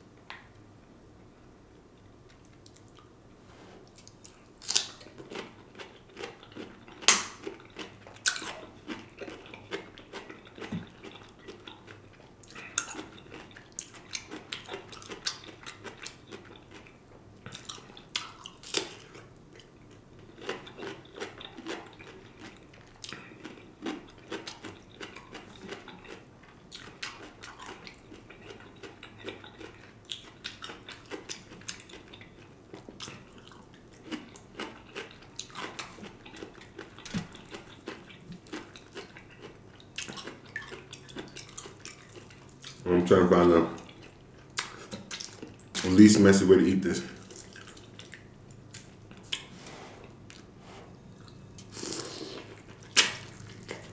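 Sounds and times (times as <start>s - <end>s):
person chewing meat: 3.8s - 46.0s, 47.1s - 53.9s.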